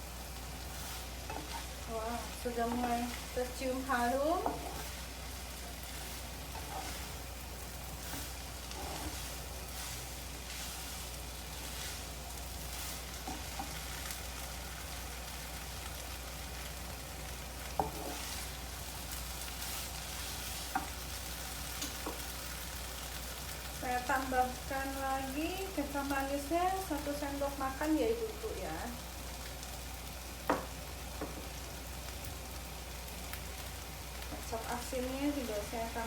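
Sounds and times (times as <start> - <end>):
noodles sizzling in a hot pan: 0.0 - 36.0.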